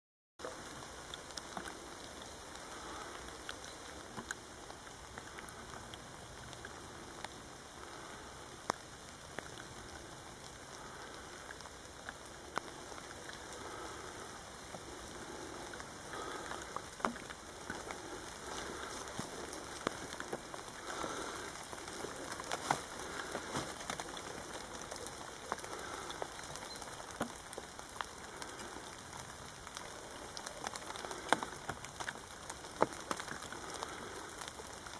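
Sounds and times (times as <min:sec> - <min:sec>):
light rain pattering on leaves: 0:00.4 - 0:34.9.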